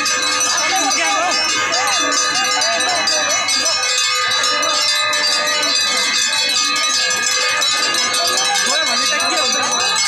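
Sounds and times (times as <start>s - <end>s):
crowd voices: 0.0s - 10.0s
many bells ringing: 0.0s - 10.0s.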